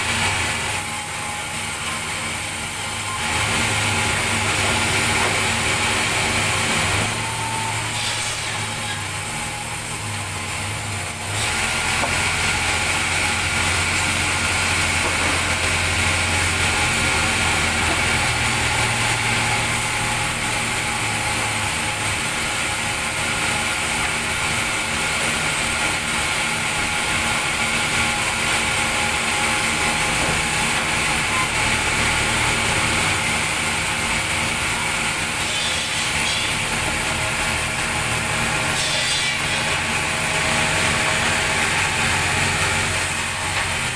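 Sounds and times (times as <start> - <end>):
band saw cutting log: 0.0 - 43.9.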